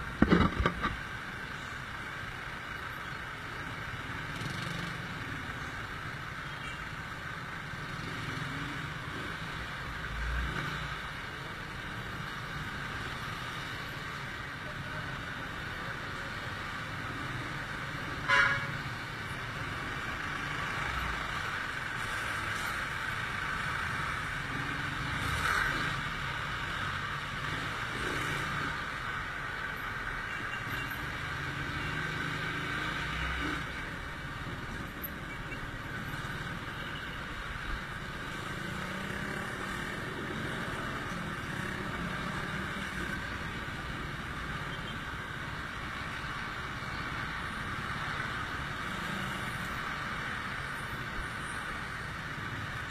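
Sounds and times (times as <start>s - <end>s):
passing trucks and cars: 0.0s - 52.9s
road noise: 0.0s - 52.9s.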